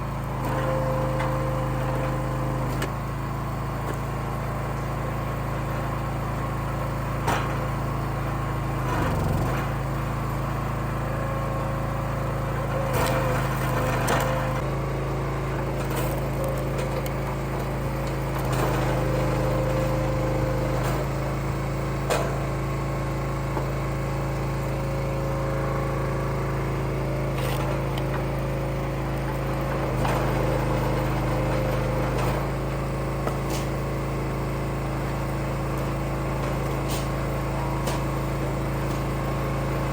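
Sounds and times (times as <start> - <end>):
wood splitter engine running: 0.0 - 39.9.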